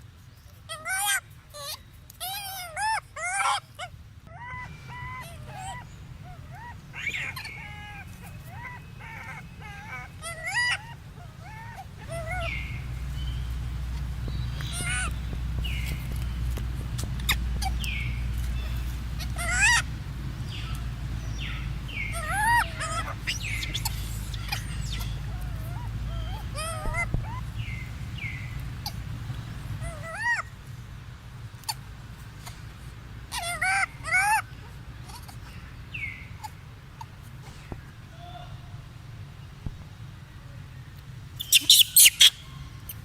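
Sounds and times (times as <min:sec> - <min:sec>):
monkey squeaky calls: 0:00.6 - 0:30.6, 0:33.3 - 0:37.1, 0:41.4 - 0:43.0
steady low hum: 0:03.7 - 0:41.6.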